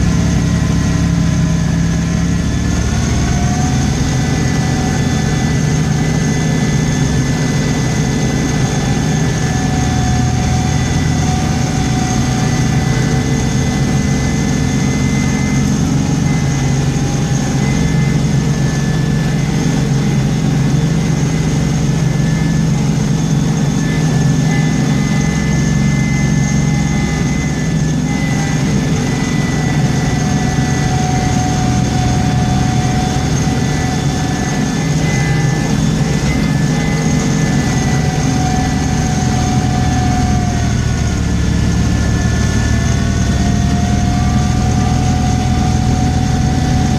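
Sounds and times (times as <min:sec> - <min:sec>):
heavy vehicle engine running: 0:00.0 - 0:46.9
thin whining tones: 0:00.0 - 0:46.9.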